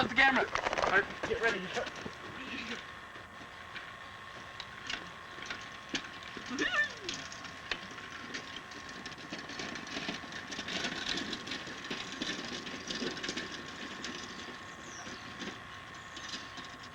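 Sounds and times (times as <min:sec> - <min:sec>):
wagon and bicycles rattling: 0:00.0 - 0:16.9.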